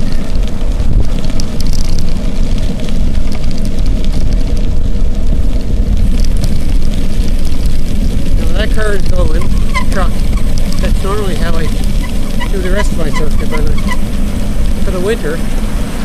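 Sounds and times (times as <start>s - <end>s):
light ticks and rattles: 0.0s - 16.0s
wind buffeting microphone: 0.0s - 16.0s.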